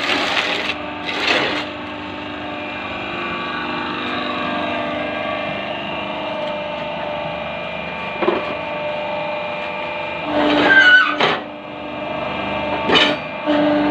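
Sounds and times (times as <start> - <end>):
block press machine humming: 0.0 - 13.9.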